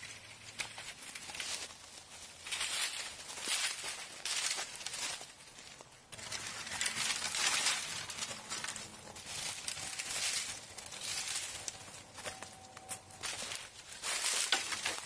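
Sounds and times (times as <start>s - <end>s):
branches dragged through brush: 0.0s - 15.0s.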